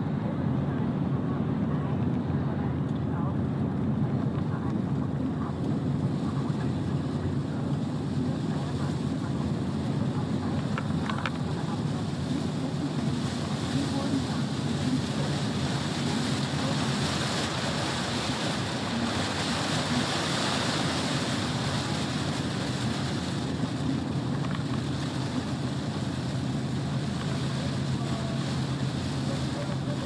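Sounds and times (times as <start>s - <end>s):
lorry engine drone: 0.0s - 30.0s.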